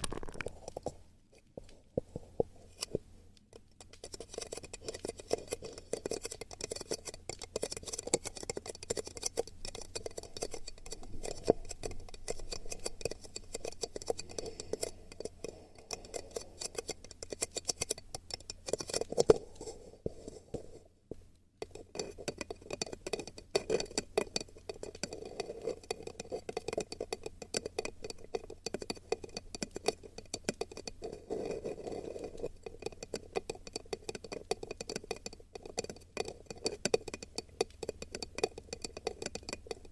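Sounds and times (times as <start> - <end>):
crackling and scratching at microphone: 0.0 - 39.9.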